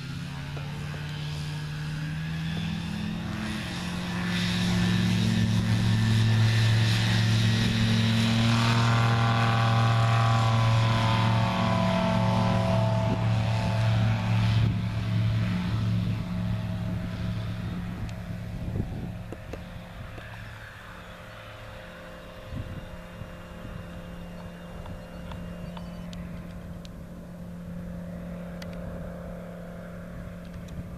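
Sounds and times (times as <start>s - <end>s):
propeller aircraft engine droning: 0.0s - 30.9s.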